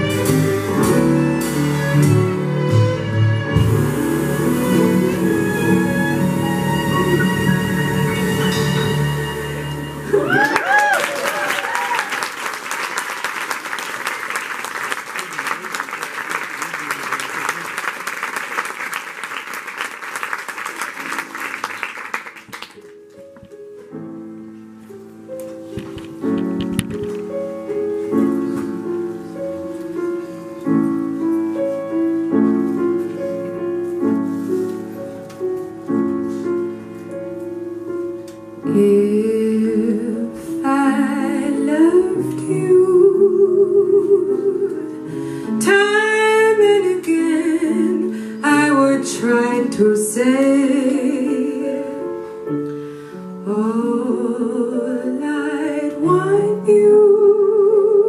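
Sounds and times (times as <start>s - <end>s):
jazz piano chords: 0.0s - 10.8s, 21.0s - 58.0s.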